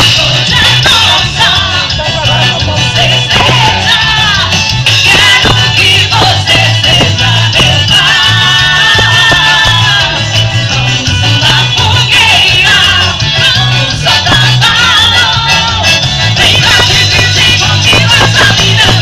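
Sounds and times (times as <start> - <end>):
loud music with singing: 0.0 - 19.0
repeating bass line: 0.0 - 19.0.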